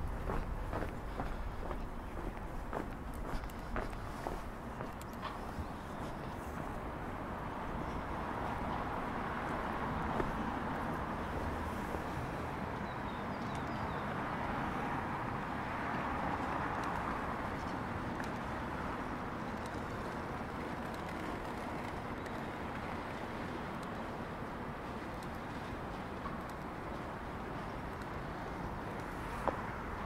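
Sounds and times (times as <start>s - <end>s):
city street noise: 0.0s - 30.0s.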